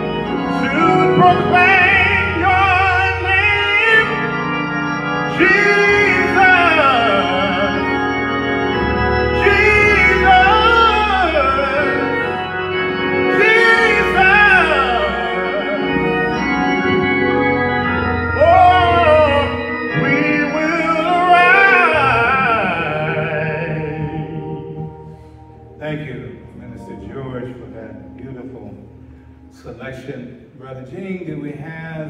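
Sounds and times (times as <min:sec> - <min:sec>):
man singing gospel: 0:00.0 - 0:25.0, 0:25.8 - 0:28.7
organ chords: 0:00.0 - 0:32.0.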